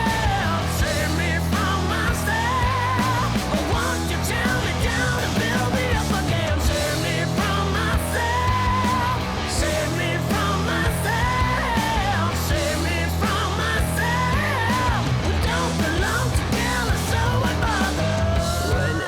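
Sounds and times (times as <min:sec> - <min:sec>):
rock music with singing: 0:00.0 - 0:19.0.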